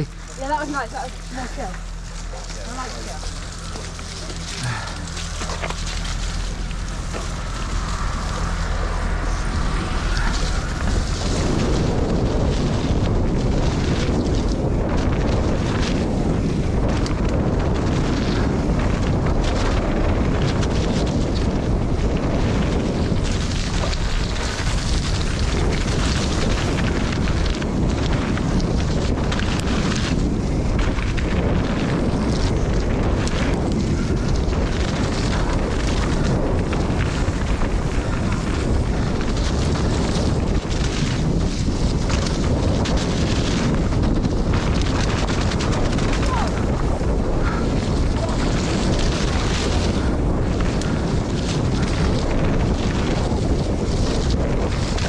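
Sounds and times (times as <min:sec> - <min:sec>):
bike rattling and knocking: 0:00.0 - 0:55.0
bike tyre noise: 0:00.0 - 0:55.0
wind on microphone: 0:00.0 - 0:55.0.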